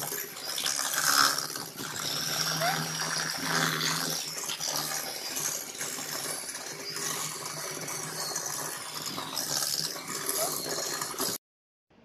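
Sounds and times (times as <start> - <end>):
electric hand mixer running: 0.0 - 11.4.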